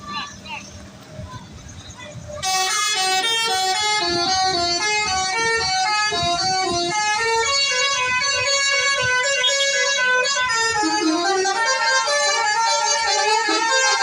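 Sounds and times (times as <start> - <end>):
bus horn playing a tune: 2.4 - 14.0.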